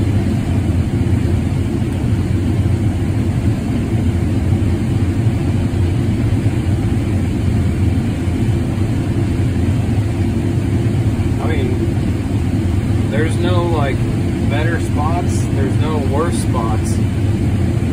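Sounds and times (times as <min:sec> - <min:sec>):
combine harvester drone: 0:00.0 - 0:17.9.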